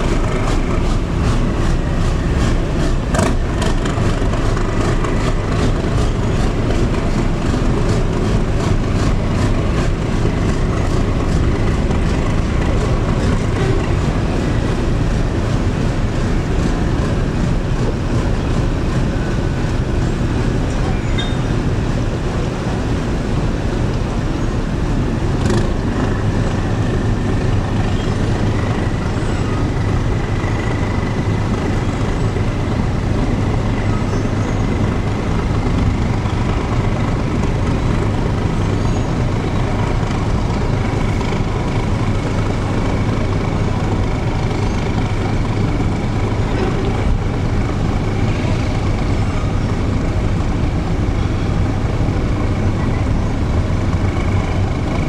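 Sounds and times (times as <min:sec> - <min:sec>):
boat engines droning: 0:00.0 - 0:55.0.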